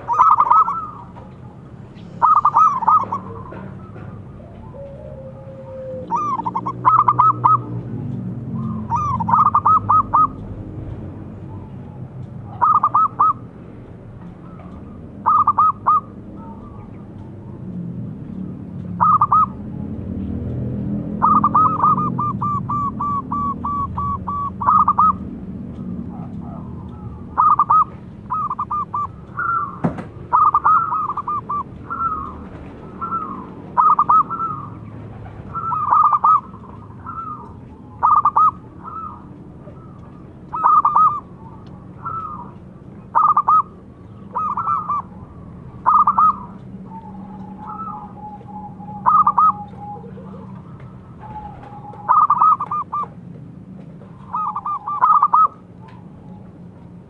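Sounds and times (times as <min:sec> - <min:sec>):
dove cooing: 0:00.0 - 0:13.5, 0:14.4 - 0:17.7, 0:18.9 - 0:19.9, 0:21.0 - 0:53.2, 0:54.0 - 0:56.6.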